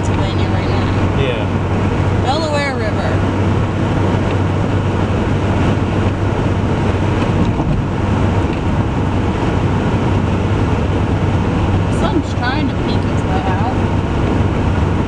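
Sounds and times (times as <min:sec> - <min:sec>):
low engine hum: 0:00.0 - 0:15.0
road noise inside moving car: 0:00.0 - 0:15.0.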